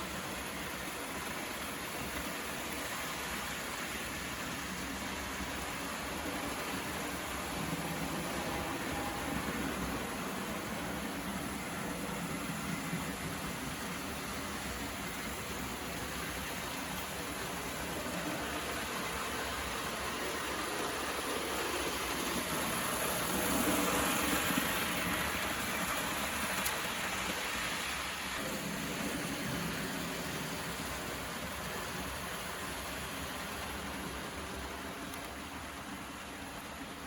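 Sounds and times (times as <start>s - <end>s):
model train rolling on track: 0.0s - 37.0s.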